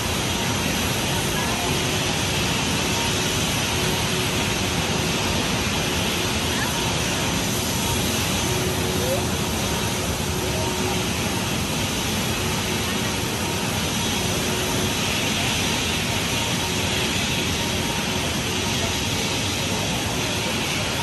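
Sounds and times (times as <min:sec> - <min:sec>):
ship lift machinery roar: 0:00.0 - 0:21.0.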